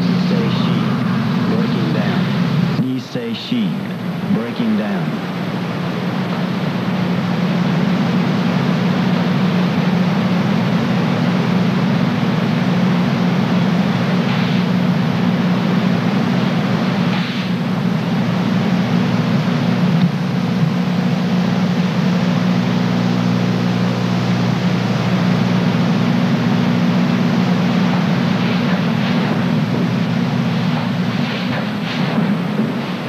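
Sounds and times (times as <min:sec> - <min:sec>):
low hum: 0:00.0 - 0:33.0
tape hiss: 0:00.0 - 0:33.0.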